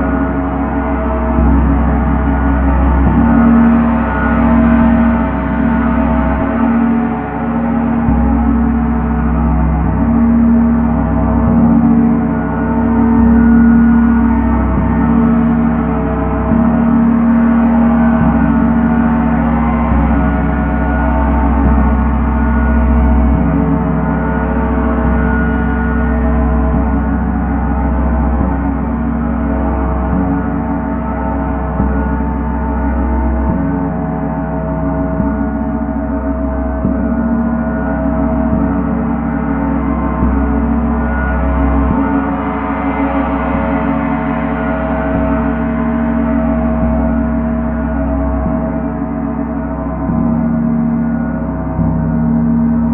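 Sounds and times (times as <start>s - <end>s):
deep low hum: 0.0s - 52.9s
gong-like ringing tones: 0.0s - 52.9s.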